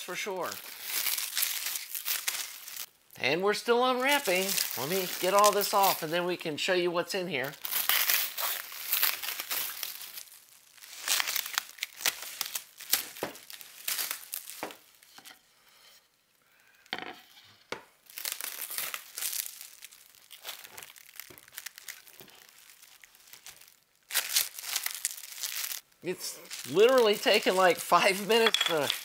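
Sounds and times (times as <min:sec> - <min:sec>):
plastic wrap crinkling and tearing: 0:00.0 - 0:06.4, 0:07.2 - 0:15.2, 0:18.0 - 0:29.0.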